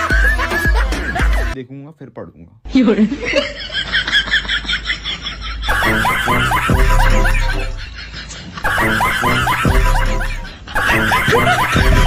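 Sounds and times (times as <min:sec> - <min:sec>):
person laughing loudly: 0:00.0 - 0:01.6, 0:02.8 - 0:12.0.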